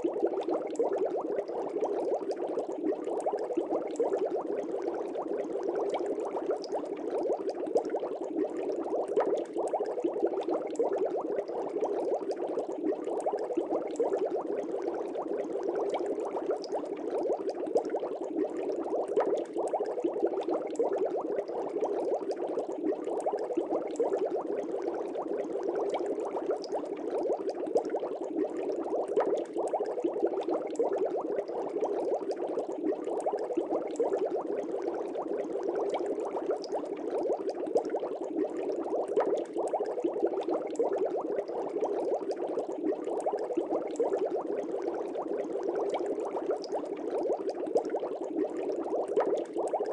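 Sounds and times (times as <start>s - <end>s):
aquarium water bubbling: 0.0s - 49.9s.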